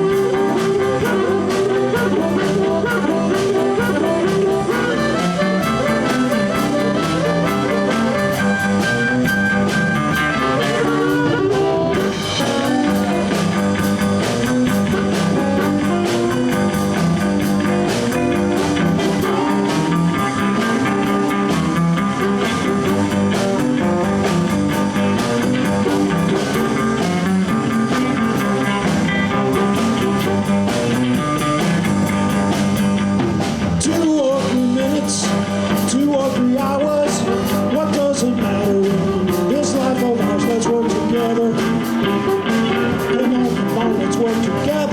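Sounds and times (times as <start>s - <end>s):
bass guitar: 0.0s - 44.9s
drum kit shuffle: 0.0s - 44.9s
electric guitar: 0.0s - 44.9s.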